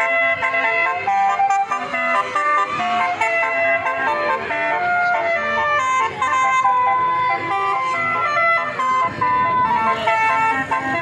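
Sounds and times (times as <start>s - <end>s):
musical bus horn melody: 0.0s - 11.0s.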